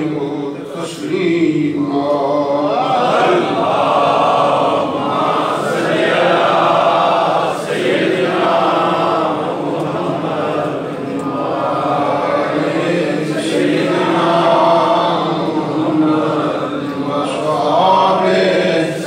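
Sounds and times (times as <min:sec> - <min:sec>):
man chanting through microphone: 0:00.0 - 0:19.0.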